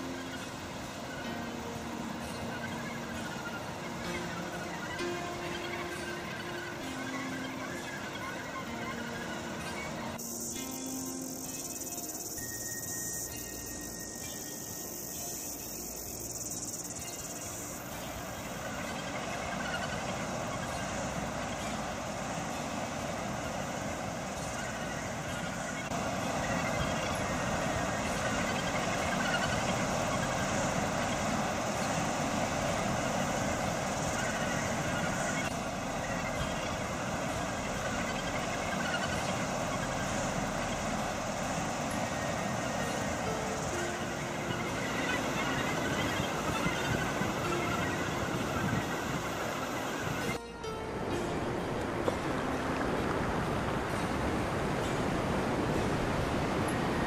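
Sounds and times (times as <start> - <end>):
faint seabird colony calls: 0.0 - 50.4
insects chirring: 0.0 - 57.0
surf and wind rushing: 0.0 - 57.0.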